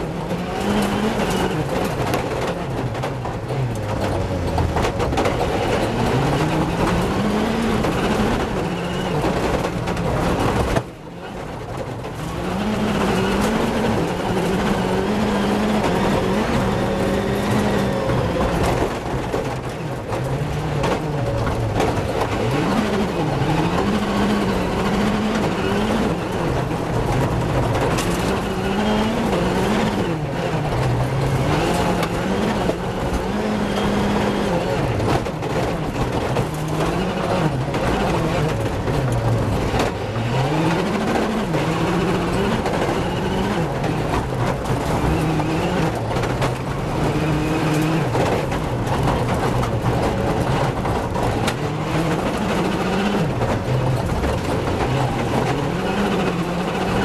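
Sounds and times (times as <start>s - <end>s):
gravel and road noise: 0.0s - 57.0s
rally car engine revving: 0.0s - 57.0s.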